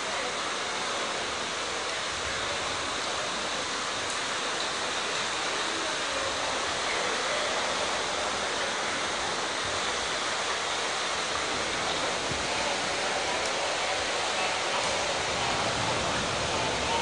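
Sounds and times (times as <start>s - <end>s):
floodwater rushing over rails: 0.0s - 17.0s.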